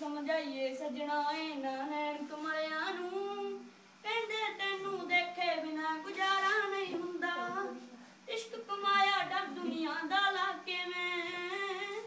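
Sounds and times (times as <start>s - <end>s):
person singing unaccompanied: 0.0s - 12.0s.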